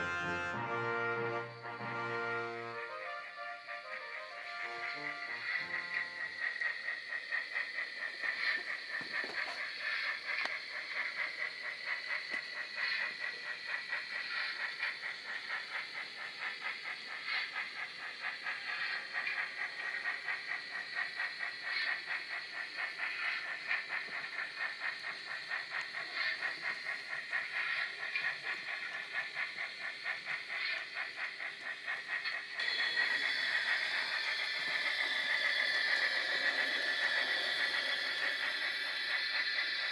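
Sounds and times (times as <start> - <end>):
rhythmic chuffing: 0.0 - 39.9
track clicking: 0.5 - 39.9
steam hiss: 1.4 - 39.9.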